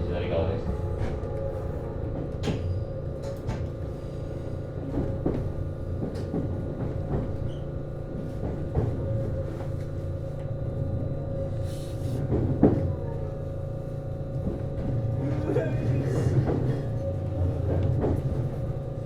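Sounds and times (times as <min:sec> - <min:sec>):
railcar humming: 0:00.0 - 0:19.0.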